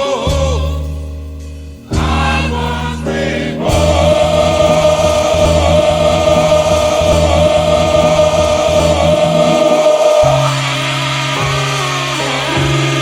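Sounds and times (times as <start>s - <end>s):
gospel choir holding a chord: 0.0s - 13.0s
steady bass line: 0.0s - 13.0s
pulsing bass line: 0.3s - 13.0s.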